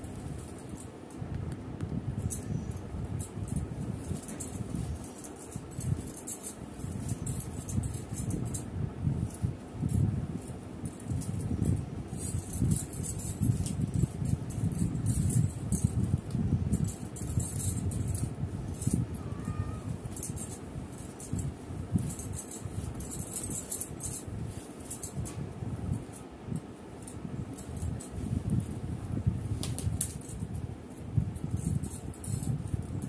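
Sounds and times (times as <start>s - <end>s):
bangles jingling: 0.0s - 1.2s, 2.2s - 33.0s
low rumble of movement: 0.0s - 33.0s
hair rustling: 2.2s - 33.0s.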